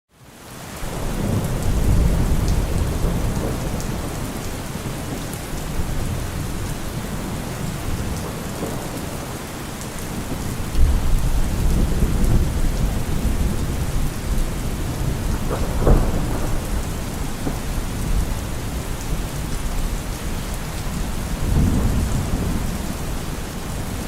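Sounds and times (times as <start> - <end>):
heavy rain falling: 0.2 - 24.0
thunder rumbling: 0.8 - 9.4, 10.0 - 24.0.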